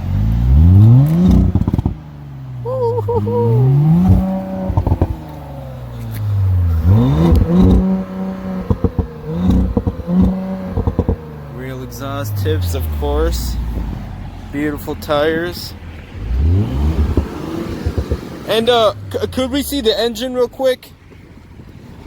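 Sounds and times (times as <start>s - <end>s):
car engine revving: 0.0s - 22.0s
exhaust crackles: 0.0s - 22.0s.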